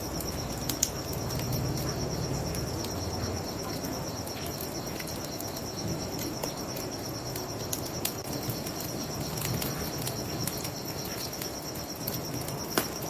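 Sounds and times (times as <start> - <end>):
crickets chirping: 0.0 - 13.0
wood fire crackling: 0.0 - 13.0.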